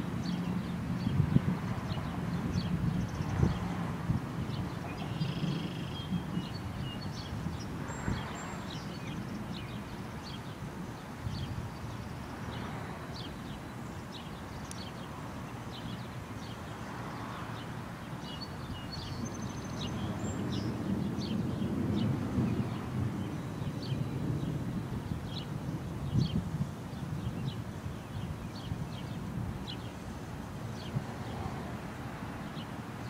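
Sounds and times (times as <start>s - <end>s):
small birds chirping: 0.0s - 25.5s, 26.1s - 31.5s
wind buffeting microphone: 0.0s - 33.0s.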